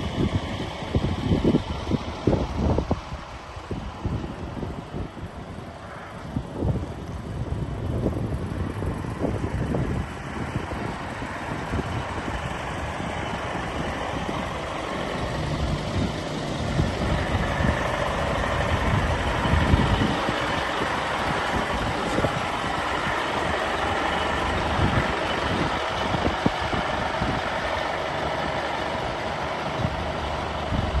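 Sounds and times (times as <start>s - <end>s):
diesel truck engine running: 0.0s - 31.0s
wind buffeting microphone: 0.0s - 31.0s.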